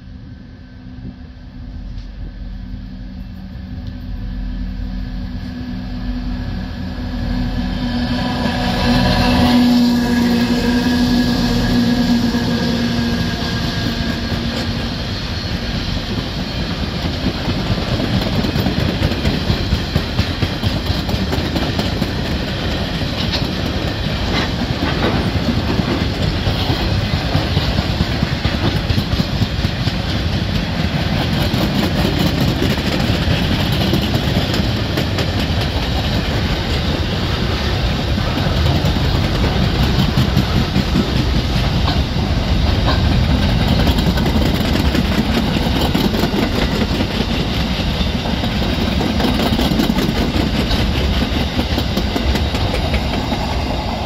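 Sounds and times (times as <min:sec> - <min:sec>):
diesel locomotive engine: 0:00.0 - 0:54.0
train wheels rumbling on rails: 0:00.0 - 0:54.0.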